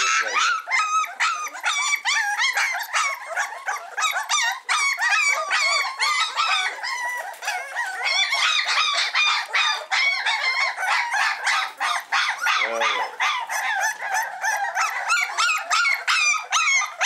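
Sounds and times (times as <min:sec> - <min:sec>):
puppies whining and yelping: 0:00.0 - 0:17.0.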